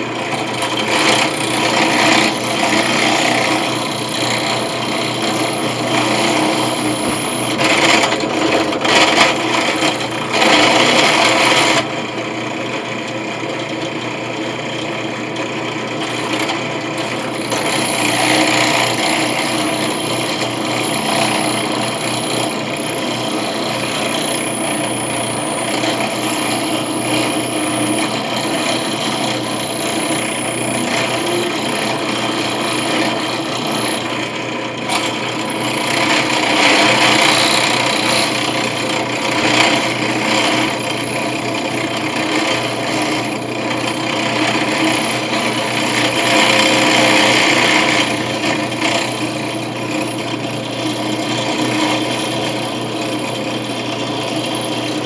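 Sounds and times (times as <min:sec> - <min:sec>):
power tool cutting: 0:00.0 - 0:11.9, 0:15.9 - 0:55.0.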